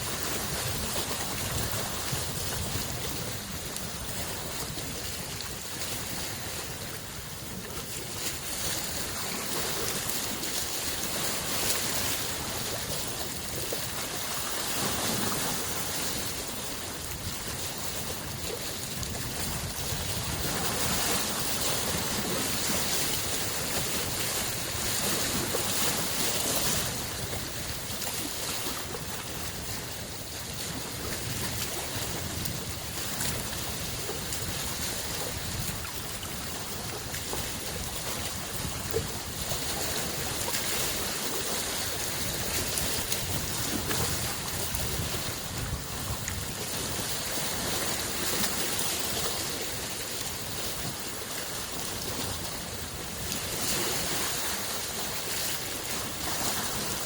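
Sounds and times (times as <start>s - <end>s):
lake waves washing on shore: 0.0s - 57.0s.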